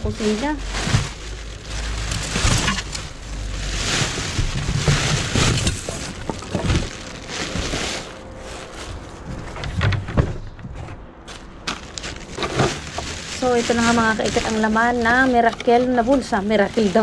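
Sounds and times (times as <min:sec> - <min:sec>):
plastic bags rustling: 0:00.0 - 0:10.1, 0:11.2 - 0:17.0.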